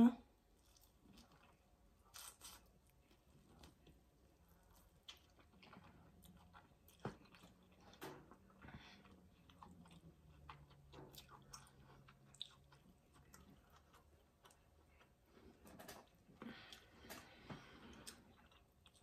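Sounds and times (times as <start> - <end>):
faint low hum: 0.0 - 19.0
chewing corn on the cob: 0.6 - 16.8, 17.9 - 19.0.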